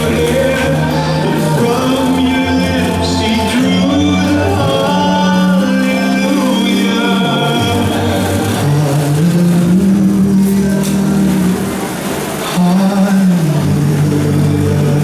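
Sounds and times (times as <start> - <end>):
slow melody over sound system: 0.0 - 15.0.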